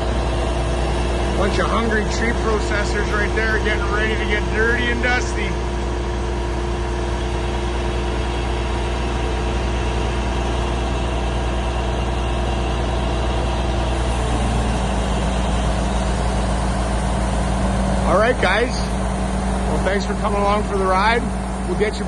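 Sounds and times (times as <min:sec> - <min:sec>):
large engine idling: 0:00.0 - 0:22.0.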